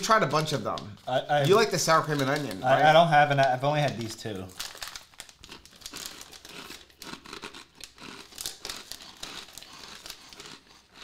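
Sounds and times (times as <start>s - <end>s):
snack bag crinkling: 0.0s - 11.0s.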